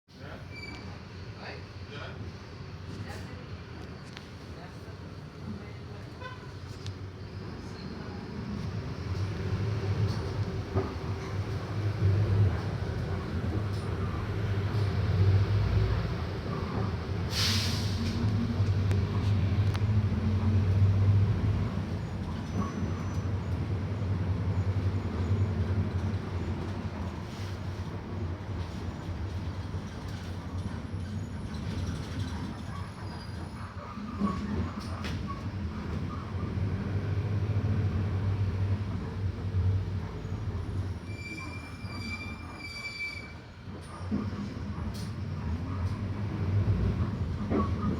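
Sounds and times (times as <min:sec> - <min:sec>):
bus engine drone: 0:02.2 - 0:41.1, 0:43.6 - 0:47.9.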